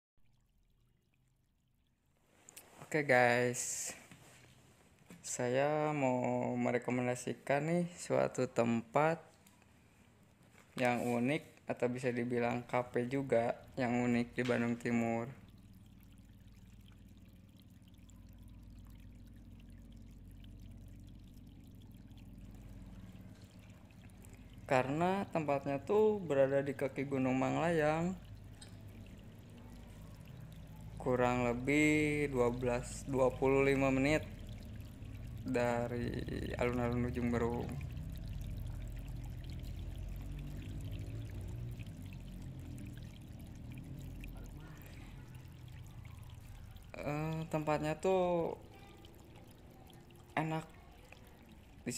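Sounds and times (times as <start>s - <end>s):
faint running water: 0.2s - 51.9s.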